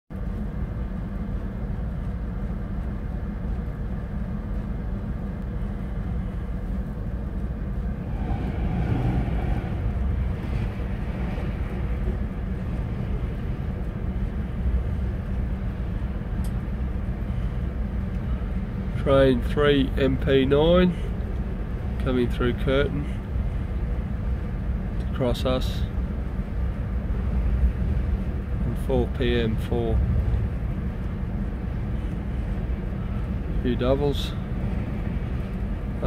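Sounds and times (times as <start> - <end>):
freight train wheels rumbling on rail: 0.1 - 36.0
locomotive engine noise: 0.1 - 36.0.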